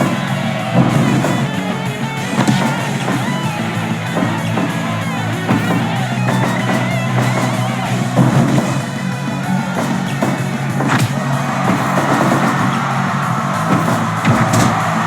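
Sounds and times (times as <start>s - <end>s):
rock music with drums and guitar: 0.0s - 15.0s.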